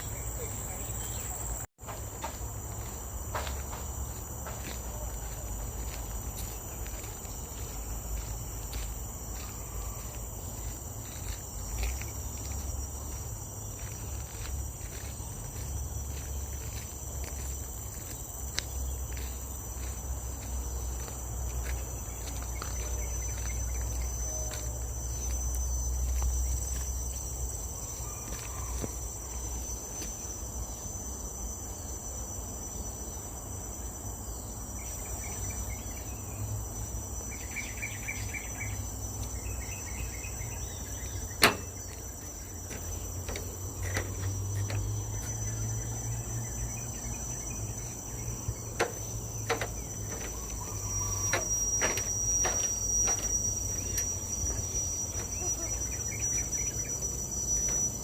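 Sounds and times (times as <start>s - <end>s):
footsteps on a trail: 0.0s - 31.1s, 34.8s - 58.0s
high-pitched insect drone: 0.0s - 58.0s.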